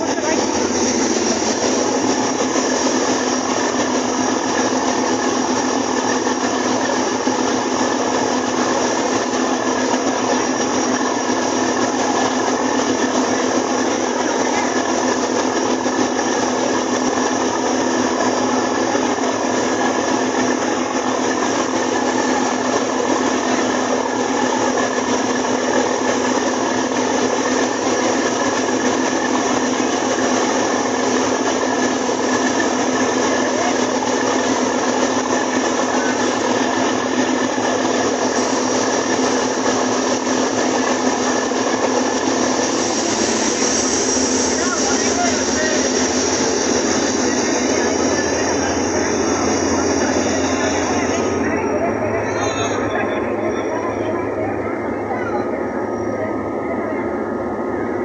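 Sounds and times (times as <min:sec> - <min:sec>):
even wash of noise: 0:00.0 - 0:52.3
boat engine droning: 0:00.0 - 0:58.0.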